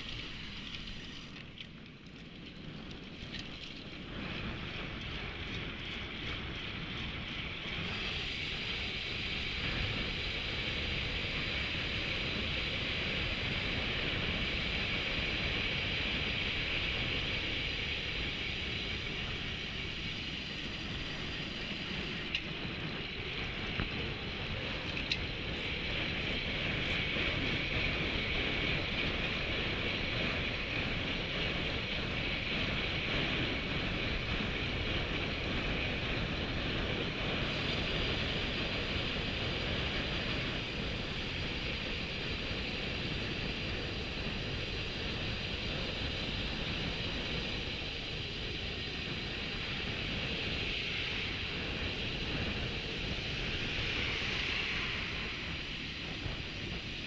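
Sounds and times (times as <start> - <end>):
tyre noise on asphalt: 0.0 - 57.0
wind on microphone: 2.3 - 57.0.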